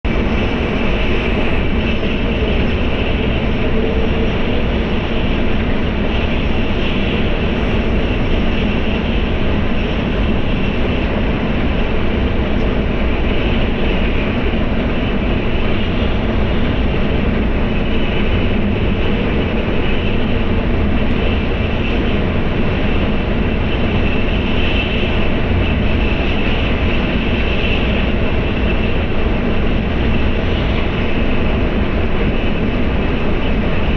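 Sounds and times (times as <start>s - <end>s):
train cabin rumble: 0.0s - 33.9s.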